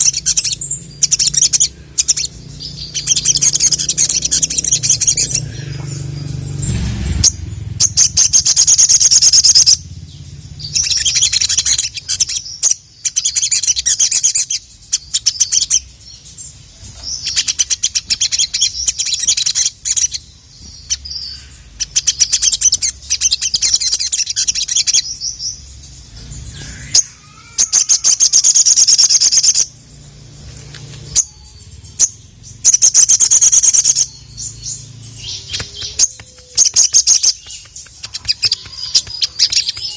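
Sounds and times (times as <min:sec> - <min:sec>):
bird chattering trills: 0:00.0 - 0:30.3, 0:31.0 - 0:39.9.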